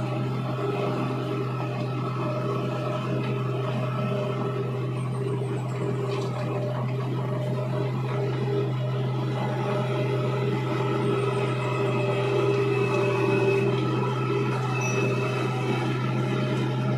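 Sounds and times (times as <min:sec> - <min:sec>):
diesel engine low hum: 0:00.0 - 0:16.9.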